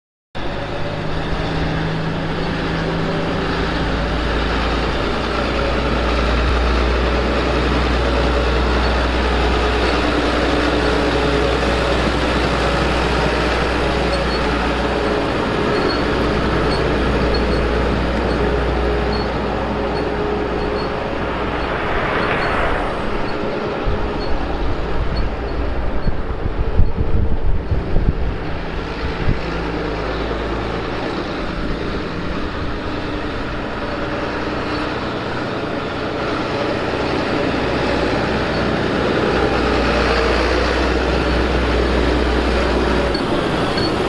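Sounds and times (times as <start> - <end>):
tractor diesel engine running: 0.4 - 22.1, 23.1 - 44.0.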